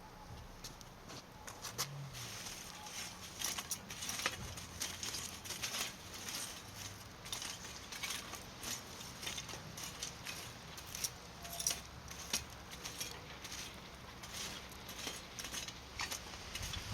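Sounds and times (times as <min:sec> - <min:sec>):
wood fire crackling: 0:00.3 - 0:16.9.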